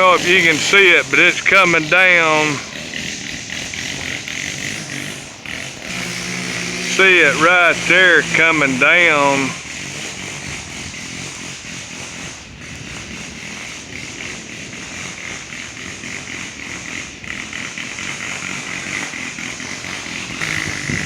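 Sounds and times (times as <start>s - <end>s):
small gasoline engine running: 0.0s - 21.0s.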